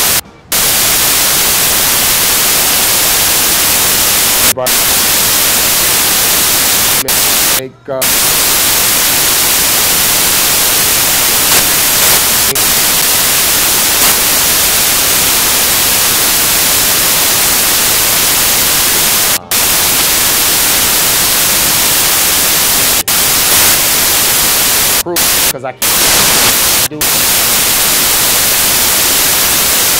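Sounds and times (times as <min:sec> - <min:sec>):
loud static hiss: 0:00.0 - 0:29.9.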